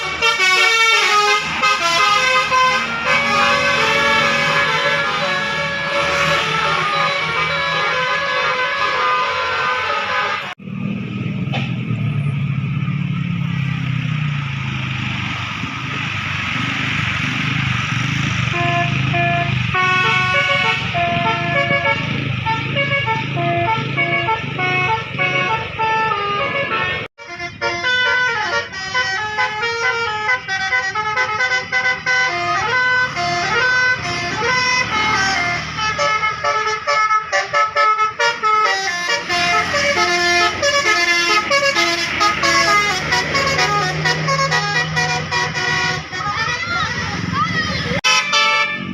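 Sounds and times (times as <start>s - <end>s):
bus horn playing a tune: 0.0s - 10.6s, 18.4s - 48.9s
bus engine and traffic rumble: 0.0s - 48.9s.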